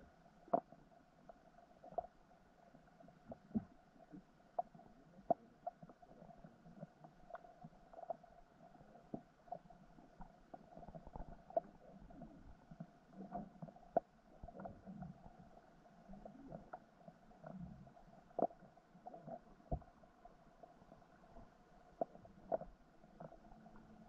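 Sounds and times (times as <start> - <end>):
muffled underwater rumble: 0.0 - 24.0
soft underwater clicks and pops: 0.0 - 24.0.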